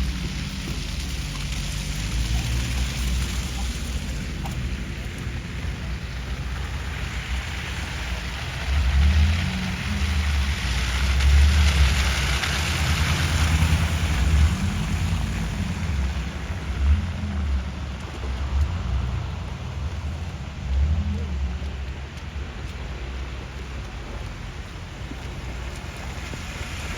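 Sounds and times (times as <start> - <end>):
traffic on wet street: 0.0 - 26.9.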